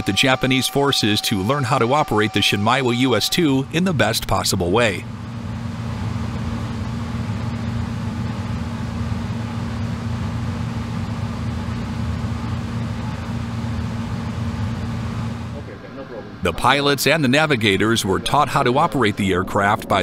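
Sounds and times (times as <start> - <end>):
turboprop engines droning: 0.0 - 20.0.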